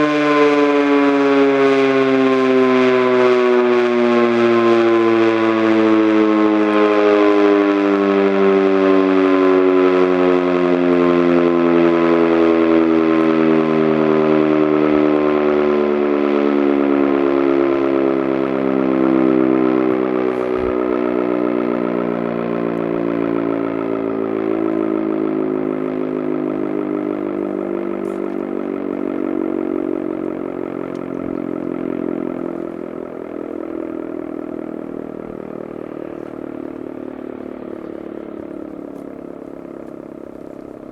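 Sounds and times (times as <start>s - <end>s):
mechanical warning siren winding down: 0.0s - 40.9s.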